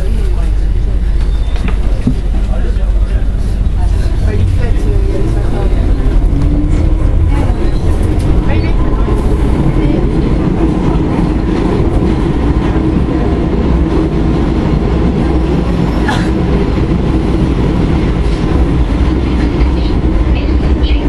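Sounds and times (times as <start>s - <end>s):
train rumbling through tunnel: 0.0s - 21.0s.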